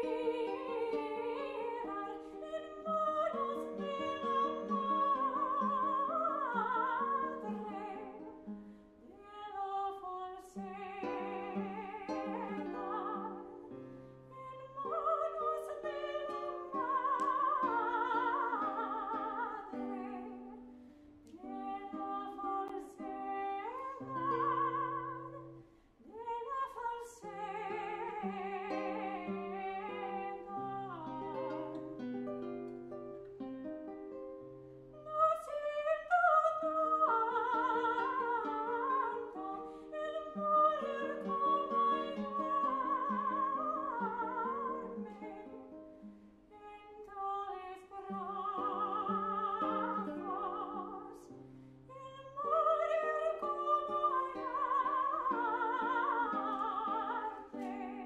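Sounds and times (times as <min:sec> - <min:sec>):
plucked classical guitar: 0:00.0 - 0:58.0
soprano singing with vibrato: 0:00.0 - 0:58.0.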